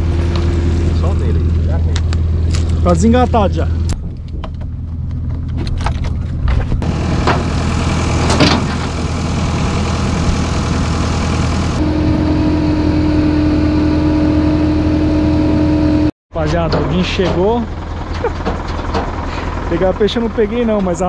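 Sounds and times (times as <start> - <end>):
steady whine: 0.0 - 21.0
truck engine running: 0.0 - 21.0.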